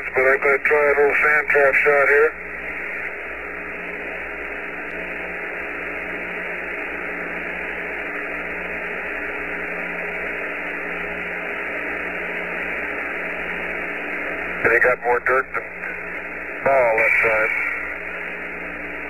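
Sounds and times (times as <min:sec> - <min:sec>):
faint steady tones: 0:00.0 - 0:19.0
radio static hiss: 0:00.0 - 0:19.0.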